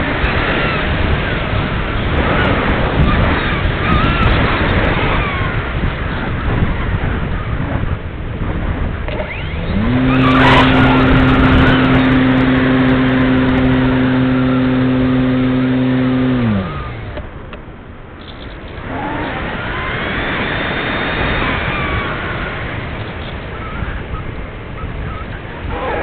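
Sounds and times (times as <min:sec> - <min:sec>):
electric motor and propeller spinning: 0:00.0 - 0:26.0
wind noise on camera: 0:00.0 - 0:26.0.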